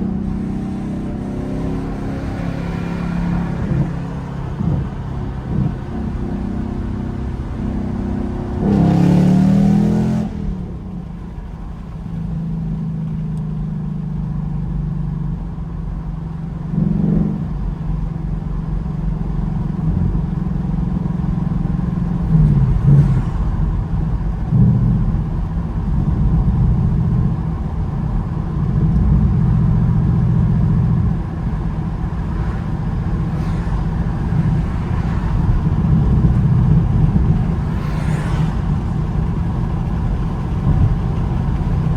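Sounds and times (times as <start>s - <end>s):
car engine and exhaust driving: 0.0s - 41.9s.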